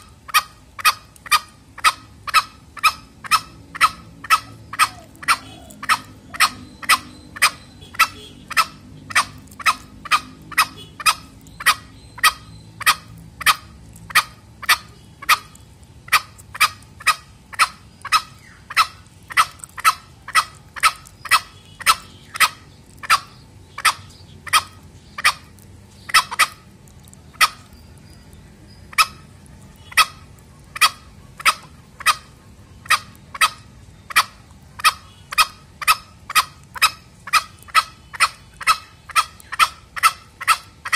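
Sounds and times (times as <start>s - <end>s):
junglefowl calling: 0.0s - 28.2s, 28.8s - 40.9s.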